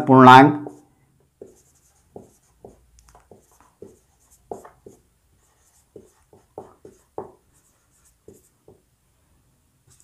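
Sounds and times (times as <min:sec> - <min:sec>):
marker writing on whiteboard: 0:00.5 - 0:09.0.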